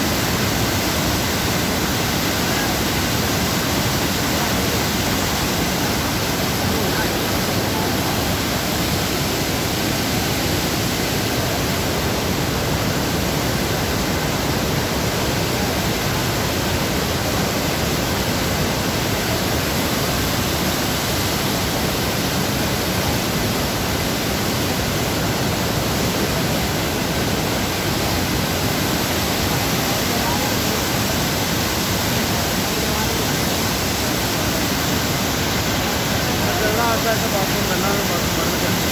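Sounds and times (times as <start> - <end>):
mountain stream roaring: 0.0 - 38.9.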